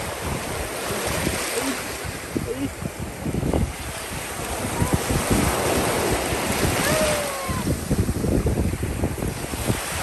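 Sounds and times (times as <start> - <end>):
sea surf washing: 0.0 - 10.0
wind buffeting microphone: 0.0 - 10.0.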